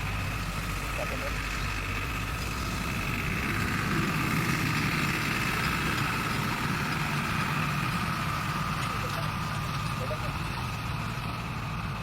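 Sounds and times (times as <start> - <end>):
high engine whine: 0.0 - 12.0
vehicle engine idling: 0.0 - 12.0.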